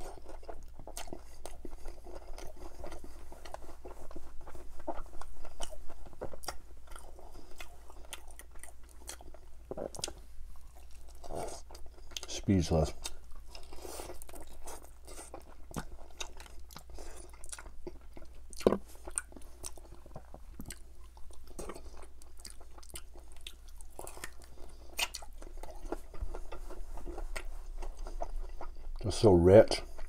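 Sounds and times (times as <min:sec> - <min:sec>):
crunching and wet chewing: 0:00.0 - 0:30.0.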